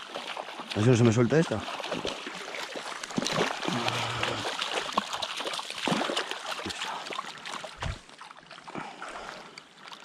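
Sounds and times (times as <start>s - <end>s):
fish thrashing and splashing water: 0.0s - 10.0s.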